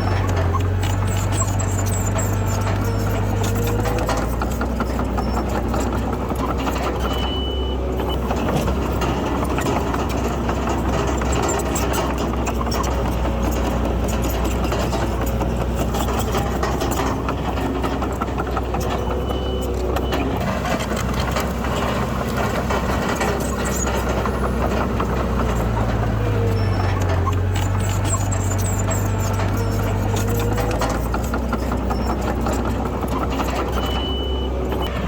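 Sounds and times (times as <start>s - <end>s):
diesel construction machinery running: 0.0s - 35.0s.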